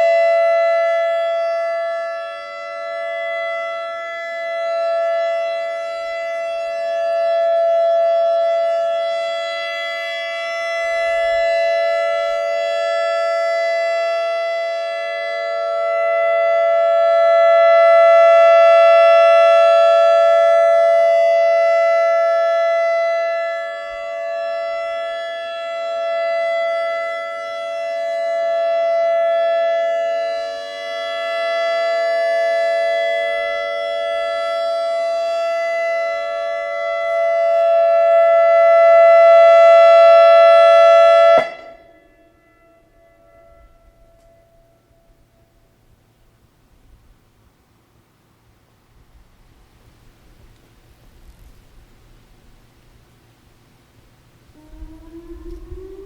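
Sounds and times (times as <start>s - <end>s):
warning siren steady tone: 0.0s - 50.8s, 51.9s - 56.0s.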